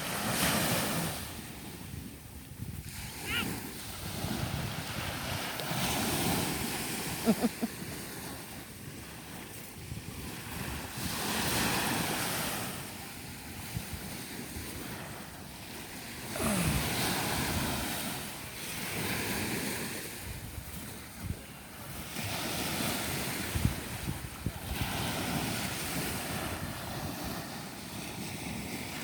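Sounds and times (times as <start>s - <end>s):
wind buffeting microphone: 0.9s - 7.2s, 7.8s - 15.8s, 16.6s - 29.0s.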